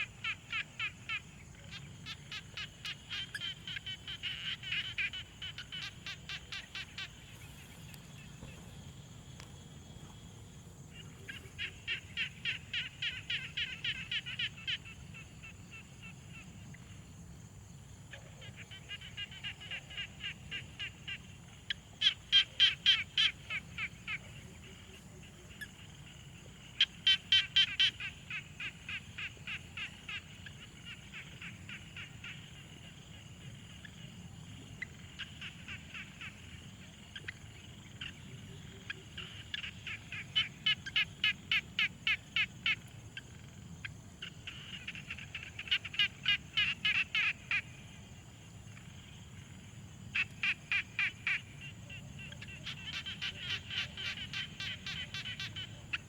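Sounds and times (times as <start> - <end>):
frogs croaking in chorus: 0.0 - 56.0.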